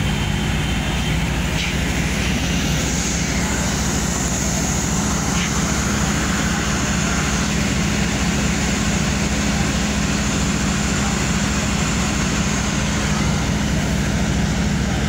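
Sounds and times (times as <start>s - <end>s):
standing train humming: 0.0s - 15.0s.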